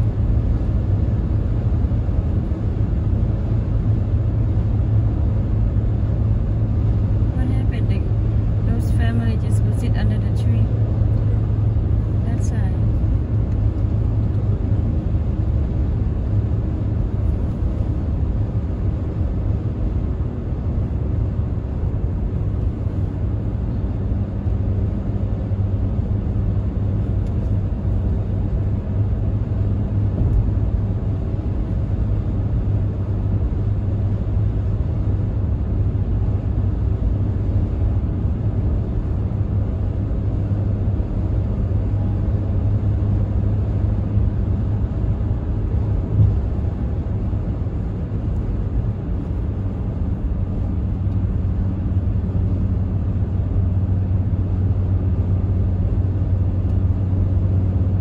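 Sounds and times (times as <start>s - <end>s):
car driving at highway speed: 0.0s - 58.0s.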